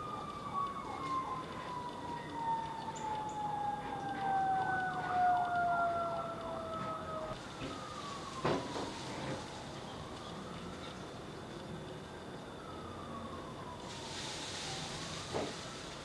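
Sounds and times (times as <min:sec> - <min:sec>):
distant siren winding down: 0:00.0 - 0:16.0.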